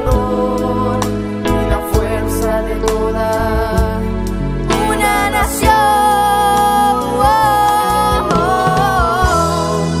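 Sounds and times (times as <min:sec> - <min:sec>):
instrumental backing: 0:00.0 - 0:10.0
voices singing slow melody: 0:00.0 - 0:10.0.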